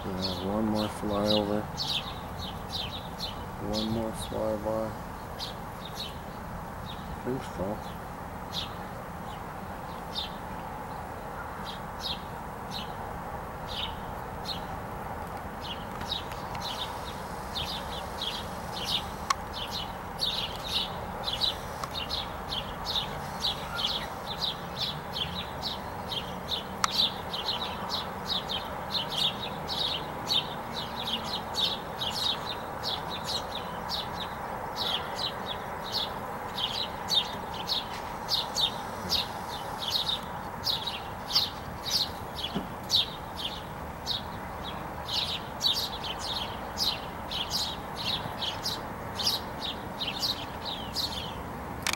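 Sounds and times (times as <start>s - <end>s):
small bird chirping: 0.0s - 10.5s, 15.6s - 51.9s.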